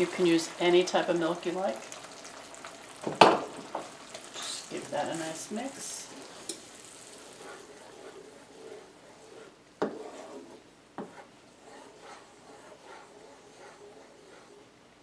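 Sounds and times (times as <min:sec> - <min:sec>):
spoon stirring gravy in a pan: 0:00.0 - 0:14.7
gravy faintly sizzling: 0:00.0 - 0:15.0.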